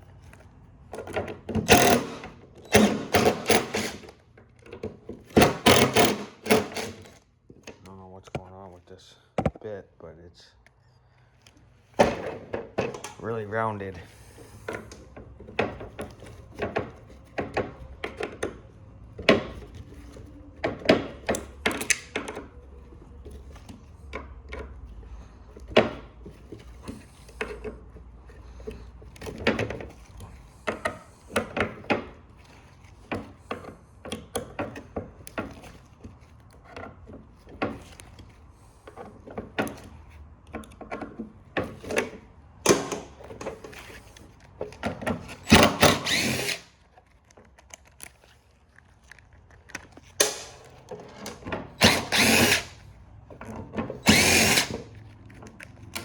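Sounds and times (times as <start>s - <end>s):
hand tools clicking and knocking: 0.9s - 8.6s, 14.5s - 48.0s, 48.7s - 56.0s.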